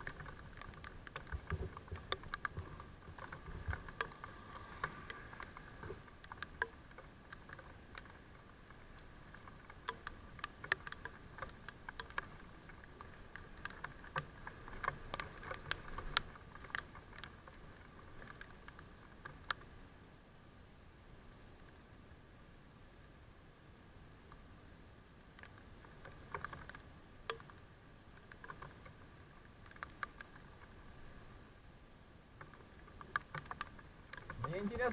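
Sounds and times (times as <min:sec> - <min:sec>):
raindrops tapping on camera: 0:00.0 - 0:19.8, 0:25.4 - 0:31.3, 0:32.4 - 0:34.9
faint steady hum: 0:00.0 - 0:34.9.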